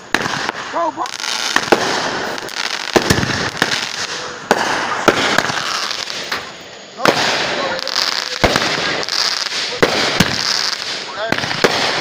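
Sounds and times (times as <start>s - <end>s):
fireworks bangs and pops: 0.0s - 12.0s
fireworks crackle: 0.0s - 12.0s.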